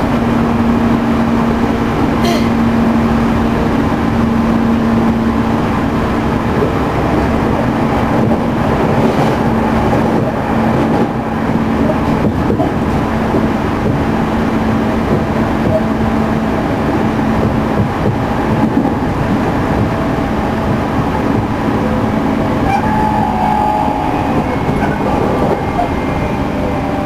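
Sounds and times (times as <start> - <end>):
train motor hum: 0.0 - 27.0
wheels rumbling on rail: 0.0 - 27.0.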